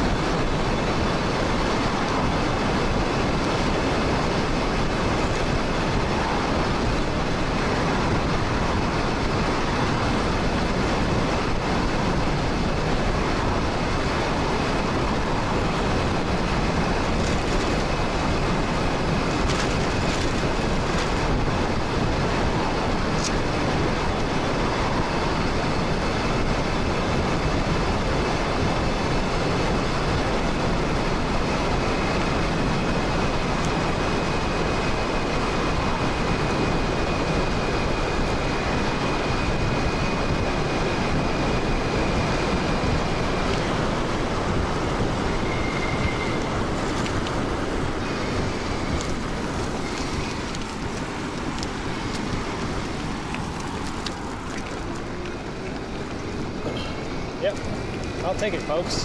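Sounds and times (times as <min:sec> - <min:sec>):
road noise: 0:00.0 - 0:59.0
wind on microphone: 0:00.0 - 0:59.0.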